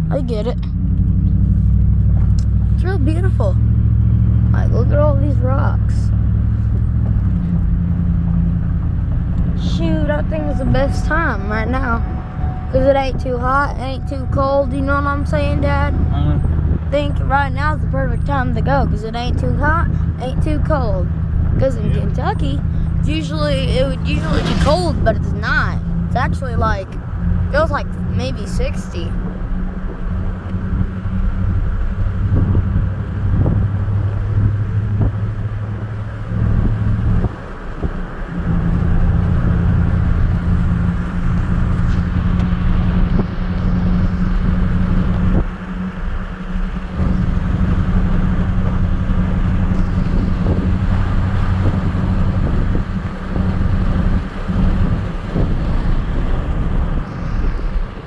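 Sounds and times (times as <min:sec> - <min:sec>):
road knocks and rattles: 0:00.0 - 0:58.0
vehicle engine hum: 0:00.0 - 0:58.0.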